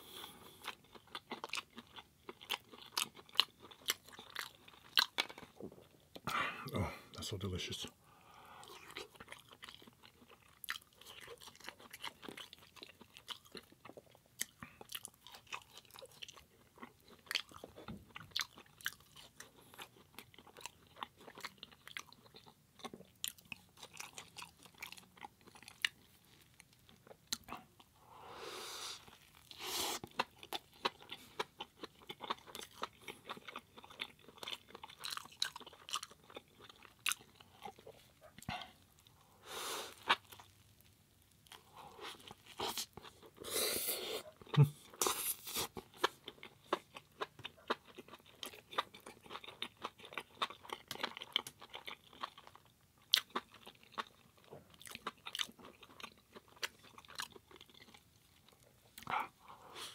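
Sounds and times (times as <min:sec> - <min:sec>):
chewing and crunching food: 0:00.0 - 0:28.0, 0:28.9 - 0:59.9.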